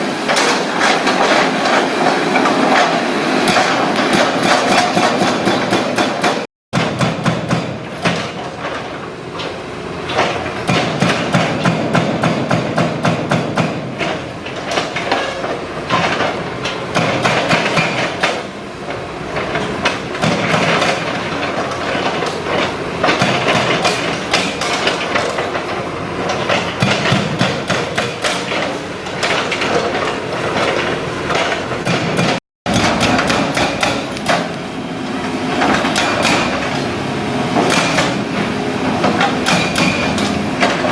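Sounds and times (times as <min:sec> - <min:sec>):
hydraulic breaker hammering concrete: 0:00.2 - 0:34.6, 0:35.5 - 0:36.8, 0:37.5 - 0:40.9.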